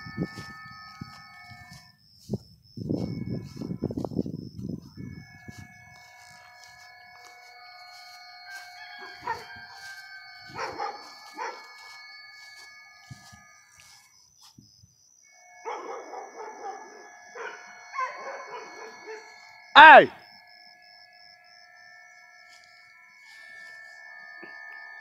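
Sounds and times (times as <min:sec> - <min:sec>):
train chime-like ringing: 0:00.0 - 0:02.4, 0:05.1 - 0:14.1, 0:15.2 - 0:25.0.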